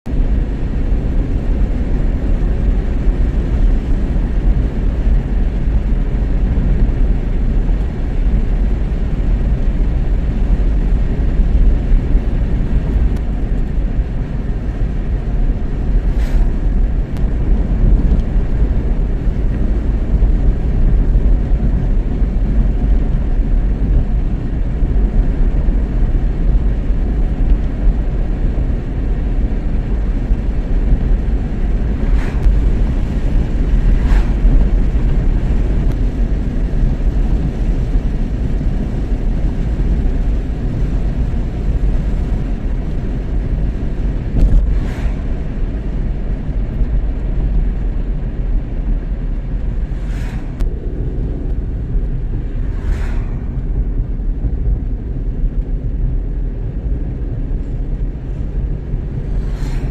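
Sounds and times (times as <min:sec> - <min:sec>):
car driving on road: 0:00.1 - 0:59.9.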